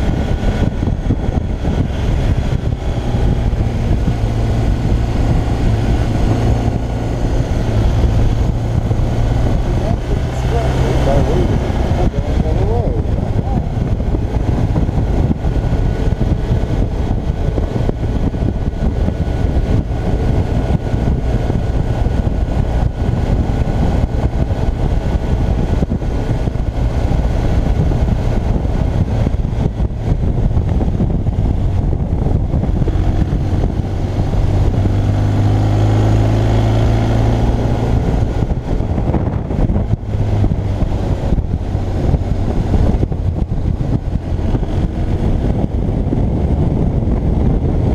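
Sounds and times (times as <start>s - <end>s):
motorcycle engine running: 0.0s - 47.9s
wind rush on microphone: 0.0s - 47.9s.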